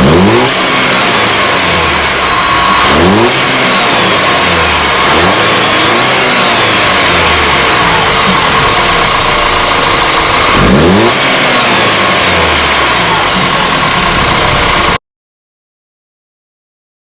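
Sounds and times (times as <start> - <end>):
turbocharged car engine revving: 0.0 - 15.0.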